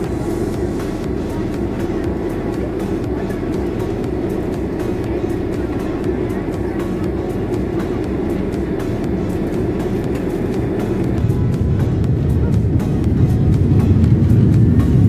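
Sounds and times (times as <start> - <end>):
jet engine cabin hum: 0.0 - 15.0.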